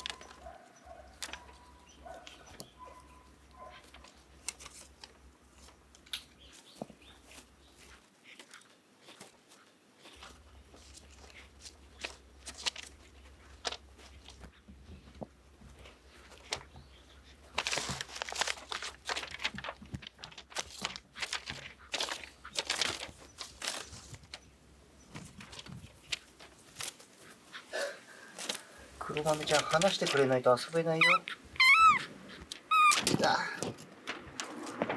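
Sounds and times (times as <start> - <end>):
crinkly rustling and clicking toy: 0.0 - 34.9.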